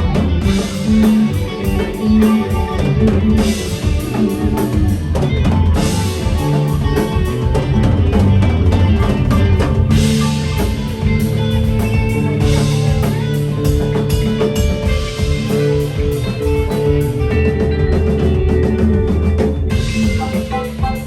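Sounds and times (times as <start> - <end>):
drum kit and cymbals: 0.0 - 21.0
electric guitar: 0.0 - 21.0.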